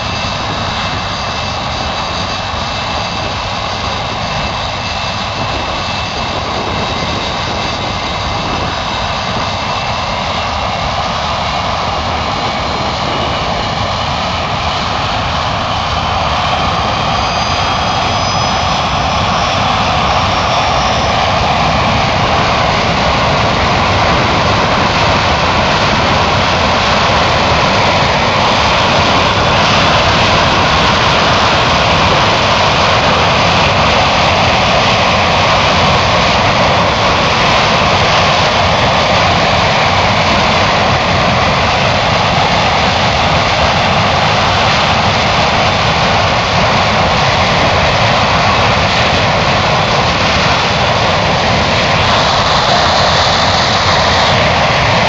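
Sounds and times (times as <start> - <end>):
aircraft engine running: 0.0 - 55.0.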